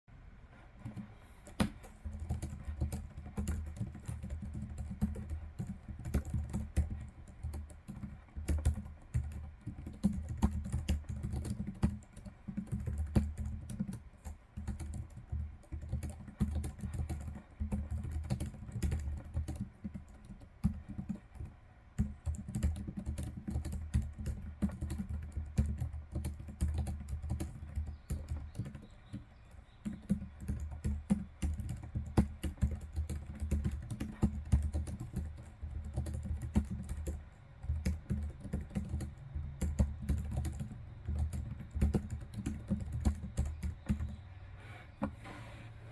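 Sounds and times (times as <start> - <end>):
keyboard typing clacks: 0.8 - 44.2.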